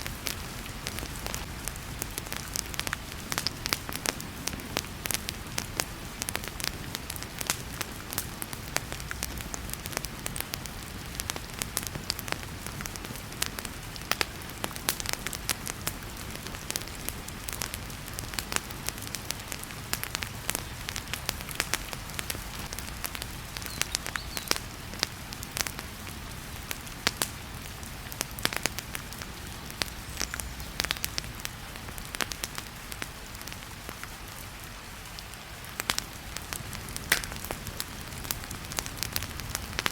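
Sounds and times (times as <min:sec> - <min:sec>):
wood fire crackling and popping: 0:00.0 - 0:34.5, 0:35.1 - 0:39.9
heavy rain hiss: 0:00.0 - 0:39.9.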